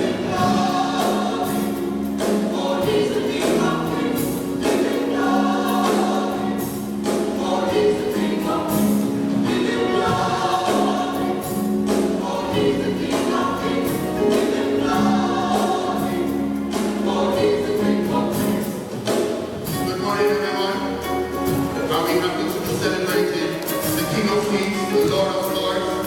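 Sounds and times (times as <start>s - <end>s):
choir singing in harmony: 0.0s - 26.0s
instrumental accompaniment: 0.0s - 26.0s.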